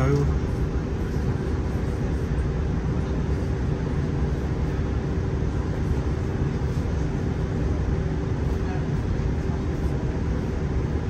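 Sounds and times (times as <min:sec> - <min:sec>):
train running rumble and hum: 0:00.0 - 0:11.0.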